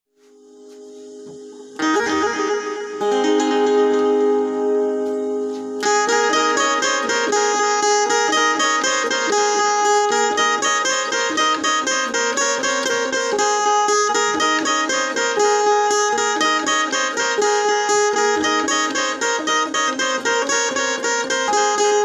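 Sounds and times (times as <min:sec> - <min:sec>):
keyed zither melody: 0:00.6 - 0:22.0.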